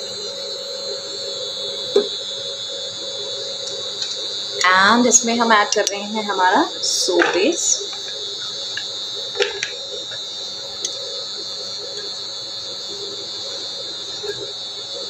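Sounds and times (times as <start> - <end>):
induction cooktop high-pitched whine: 0.0 - 15.0.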